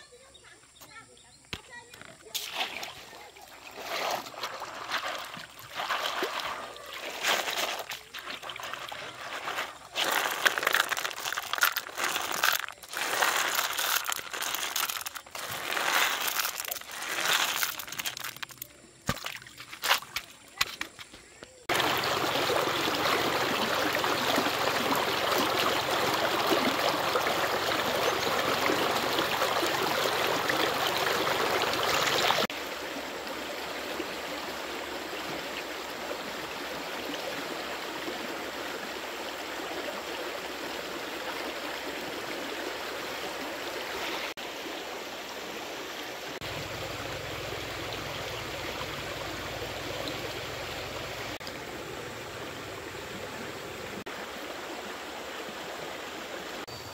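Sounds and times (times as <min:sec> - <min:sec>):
stream water running: 0:00.0 - 0:56.9.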